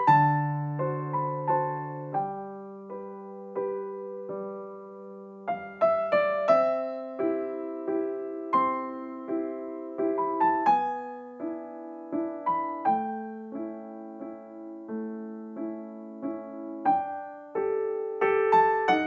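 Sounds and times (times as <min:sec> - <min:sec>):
gentle slow piano music: 0:00.0 - 0:19.0.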